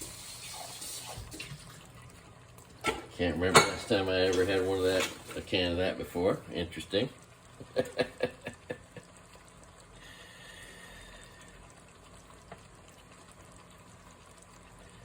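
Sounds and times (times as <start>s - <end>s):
faint wet pour: 0.0s - 15.0s.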